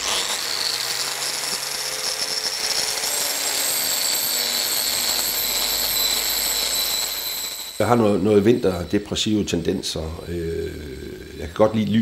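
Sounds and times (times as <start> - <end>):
angle grinder whining: 0.0 - 12.0.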